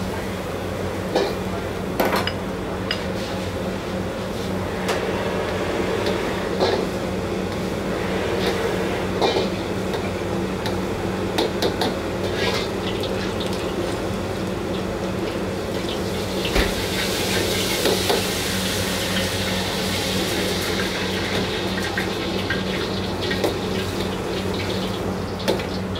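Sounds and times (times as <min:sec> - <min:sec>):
low kitchen hum: 0:00.0 - 0:25.9.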